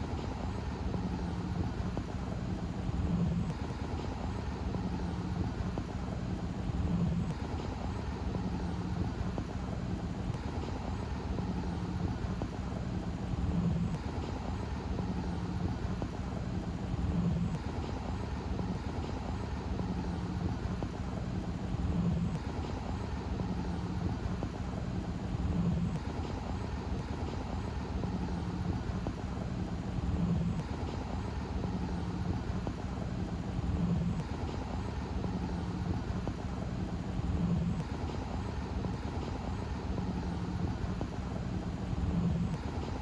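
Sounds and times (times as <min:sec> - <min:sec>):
constant rushing background: 0:00.0 - 0:43.0
low machine hum: 0:00.0 - 0:43.0.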